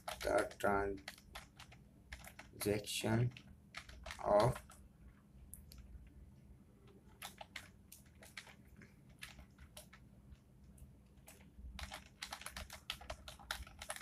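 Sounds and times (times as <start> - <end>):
faint keyboard typing: 0.0 - 14.0.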